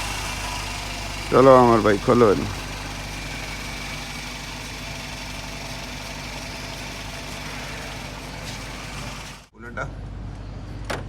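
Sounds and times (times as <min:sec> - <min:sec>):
car engine idling: 0:00.0 - 0:09.5.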